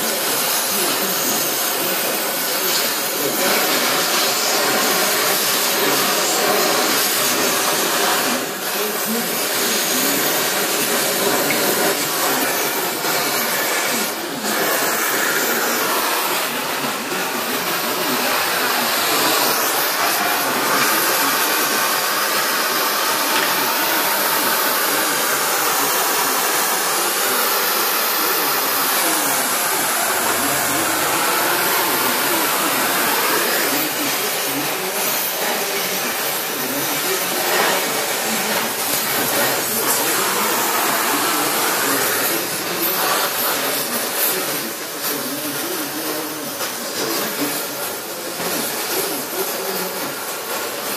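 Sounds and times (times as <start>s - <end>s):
cutting torch hissing: 0.0s - 50.9s.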